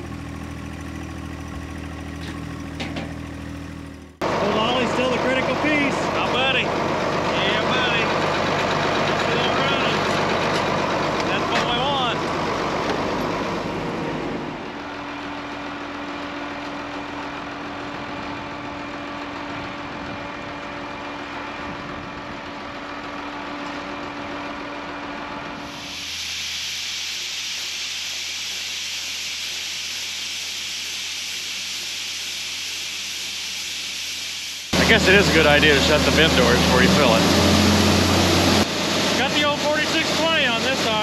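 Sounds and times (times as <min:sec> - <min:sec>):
tractor engine running: 0:00.0 - 0:26.8, 0:34.7 - 0:41.0.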